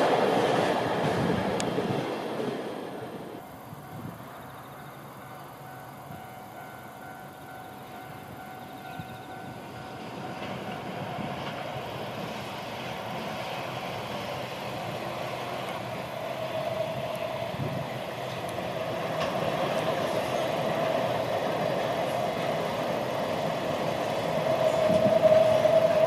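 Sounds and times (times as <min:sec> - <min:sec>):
distant train rumble: 0:00.0 - 0:26.0.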